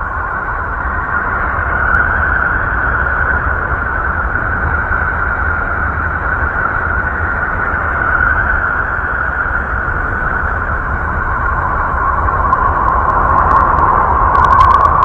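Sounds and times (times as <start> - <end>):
deep rumbling drone: 0.0 - 15.0
wind-like hiss: 0.0 - 15.0.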